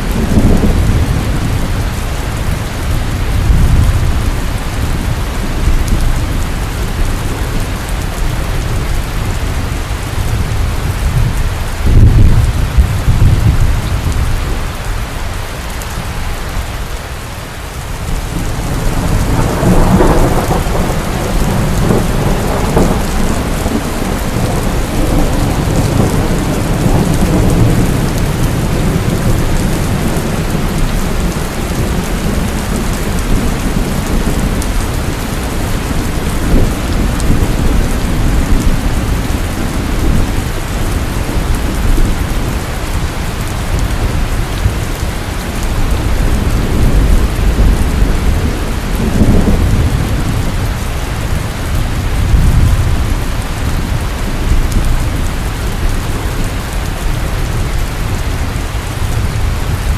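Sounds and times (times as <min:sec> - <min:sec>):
rolling thunder: 0:00.0 - 0:14.8, 0:17.8 - 0:58.3
heavy rain: 0:00.0 - 0:59.9.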